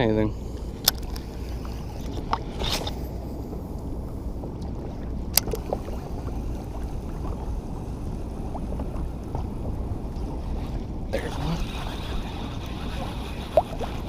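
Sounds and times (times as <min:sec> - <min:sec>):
low rumble of river water: 0:00.0 - 0:14.0.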